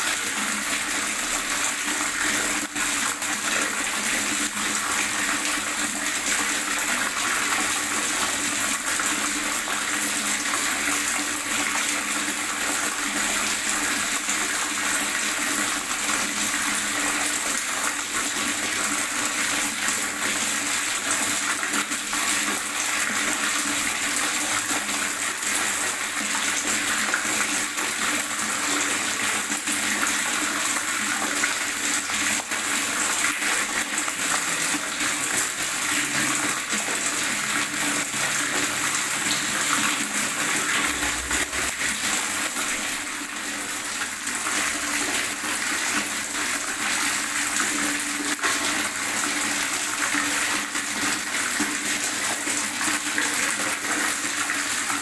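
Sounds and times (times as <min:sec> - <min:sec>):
water gurgling: 0:00.0 - 0:55.0.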